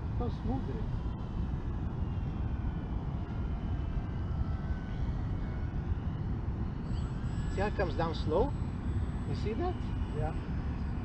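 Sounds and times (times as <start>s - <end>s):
electric model plane whine: 0.0s - 11.0s
steady low rumble: 0.0s - 11.0s.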